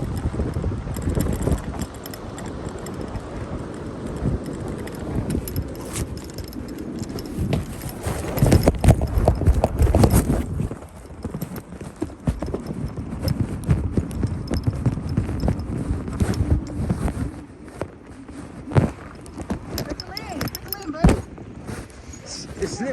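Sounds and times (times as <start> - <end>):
bicycle rattling on rough surface: 0.0 - 22.9.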